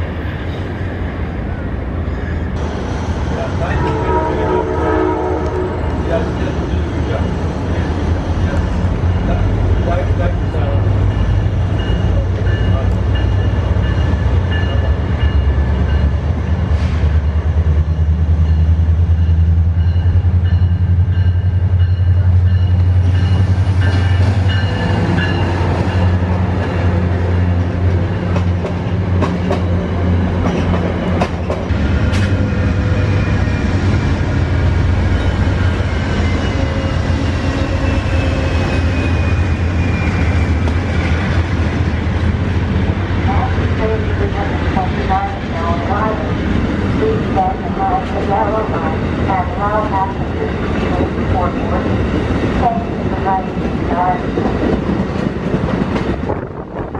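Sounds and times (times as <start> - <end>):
train cars rumbling past: 0.0 - 56.9.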